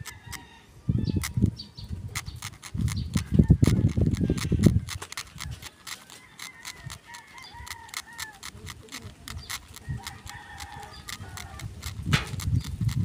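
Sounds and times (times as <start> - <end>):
chickens calling: 0.0 - 13.0
needle scratching eggshell: 0.0 - 13.0.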